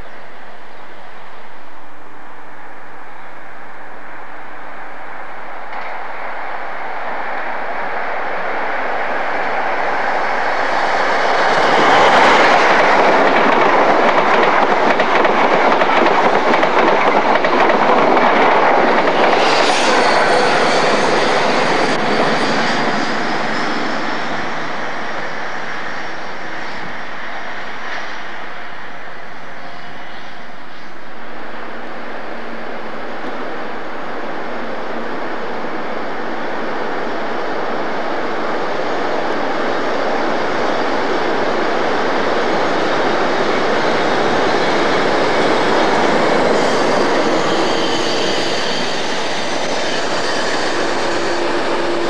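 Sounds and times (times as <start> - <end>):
high-speed train passing: 0.0 - 52.0.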